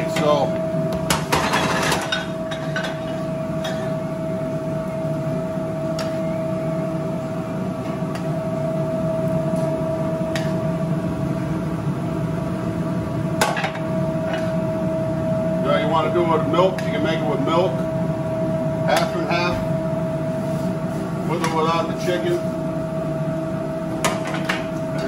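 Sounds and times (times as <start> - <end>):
kitchen hum: 0.0 - 25.0.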